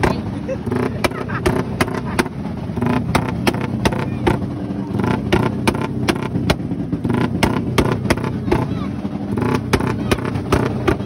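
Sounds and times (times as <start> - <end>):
exhaust pops: 0.0 - 11.0
motorcycle engine revving hard: 0.0 - 11.0.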